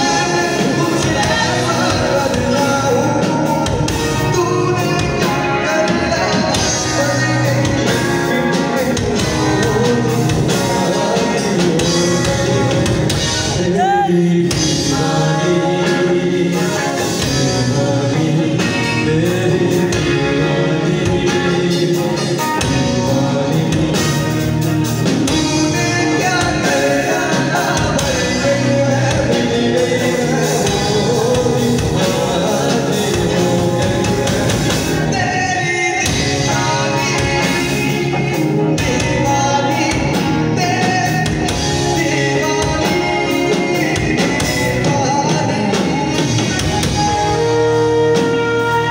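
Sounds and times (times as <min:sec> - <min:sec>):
drum kit: 0:00.0 - 0:48.9
electric guitar: 0:00.0 - 0:48.9
keyboard: 0:00.0 - 0:48.9
man singing into a microphone: 0:00.0 - 0:48.9.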